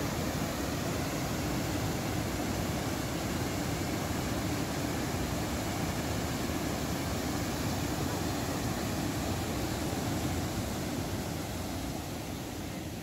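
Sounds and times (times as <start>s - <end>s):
waterfall rushing onto rocks: 0.0s - 13.0s.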